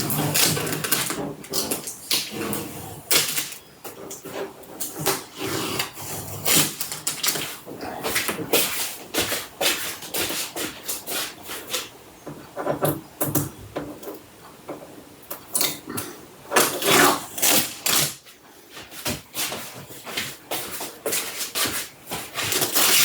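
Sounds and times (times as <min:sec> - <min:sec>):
packing material rustling and crinkling: 0:00.0 - 0:12.0, 0:16.6 - 0:23.0.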